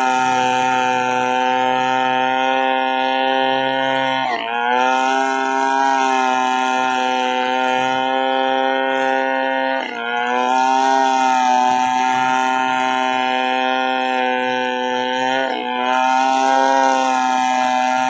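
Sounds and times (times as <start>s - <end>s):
chainsaw running at high revs: 0.0s - 18.0s.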